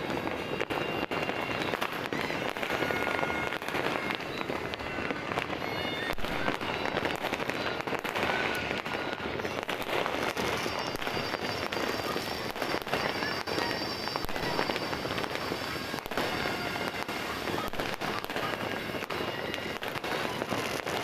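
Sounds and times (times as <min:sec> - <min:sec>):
firecracker bangs: 0:00.0 - 0:21.0
fireworks crackling: 0:00.0 - 0:21.0
fireworks whistling: 0:00.0 - 0:21.0.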